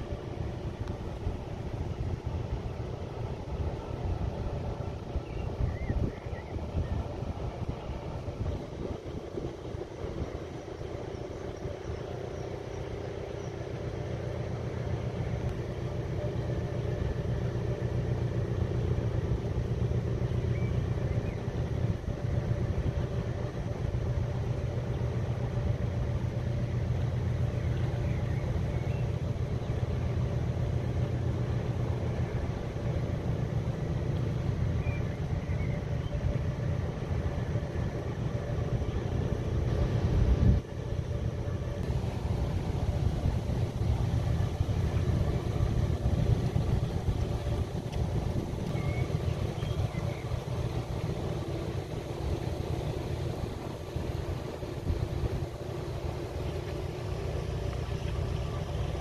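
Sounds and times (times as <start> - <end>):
constant low hum: 0.0 - 59.0
low mechanical rumble: 0.0 - 59.0.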